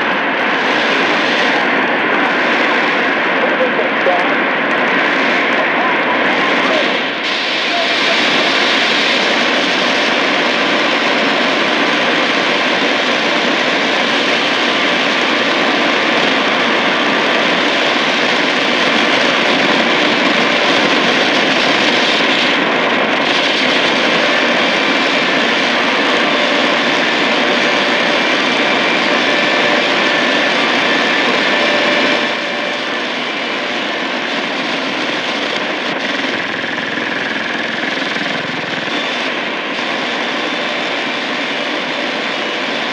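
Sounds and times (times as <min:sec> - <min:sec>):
shortwave radio static: 0:00.0 - 0:42.9.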